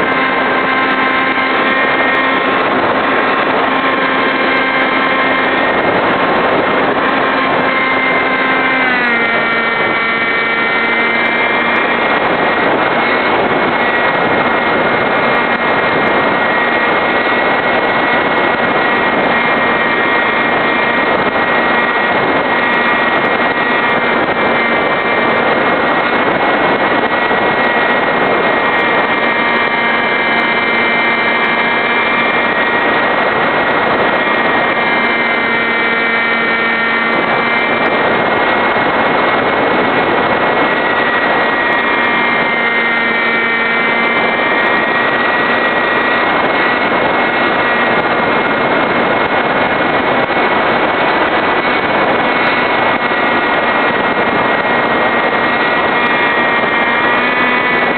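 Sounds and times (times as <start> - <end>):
electric motor whine: 0.0 - 57.9
rushing air: 0.0 - 57.9.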